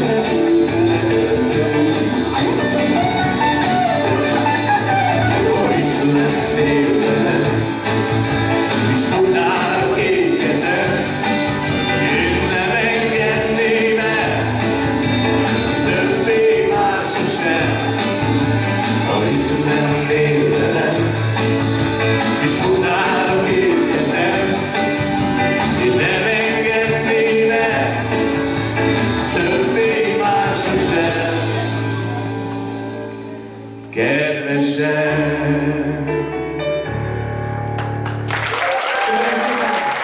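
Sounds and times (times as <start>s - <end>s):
person singing: 0.0s - 36.4s
keyboard: 0.0s - 40.0s.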